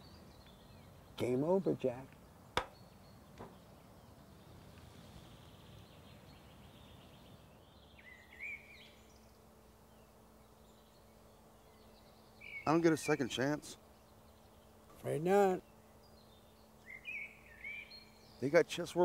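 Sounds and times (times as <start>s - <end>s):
faint outdoor ambience: 0.0s - 19.0s
faint high bird chirps: 2.7s - 18.5s.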